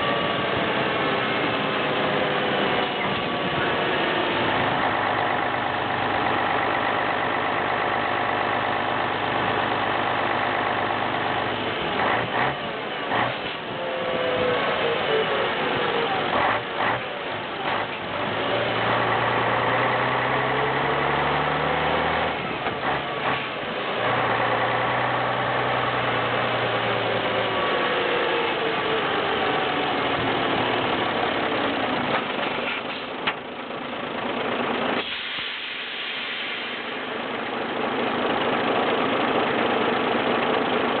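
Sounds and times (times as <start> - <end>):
truck diesel engine running: 0.0 - 35.2, 36.1 - 41.0.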